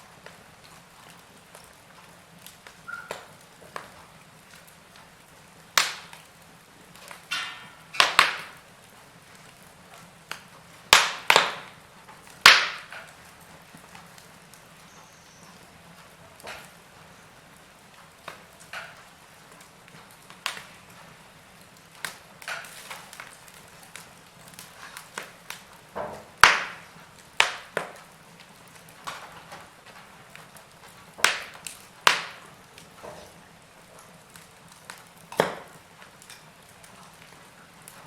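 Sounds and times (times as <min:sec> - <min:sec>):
faint steady hiss: 0:00.0 - 0:38.0
log fire crackling: 0:00.0 - 0:38.0.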